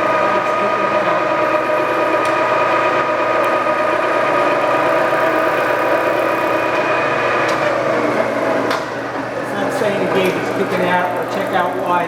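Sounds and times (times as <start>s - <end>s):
milling machine gear whine: 0.0s - 12.0s.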